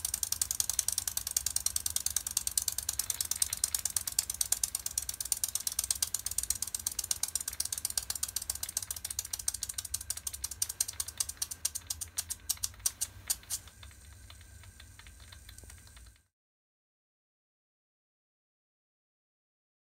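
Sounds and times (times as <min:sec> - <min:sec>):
steam engine ticking: 0:00.0 - 0:16.2
faint steady hiss: 0:00.0 - 0:16.3.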